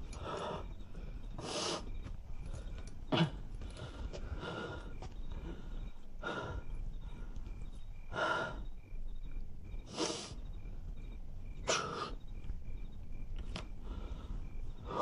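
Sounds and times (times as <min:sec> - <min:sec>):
man breathing heavily: 0:00.0 - 0:08.9, 0:09.6 - 0:10.9, 0:11.5 - 0:12.4, 0:13.5 - 0:15.0.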